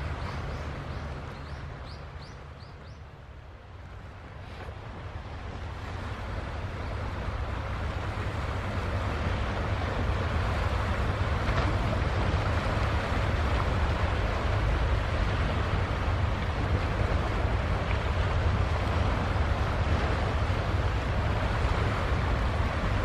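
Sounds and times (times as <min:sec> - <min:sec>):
ship passing low rumble: 0:00.0 - 0:23.0
waves: 0:00.0 - 0:23.0
wind: 0:00.0 - 0:23.0.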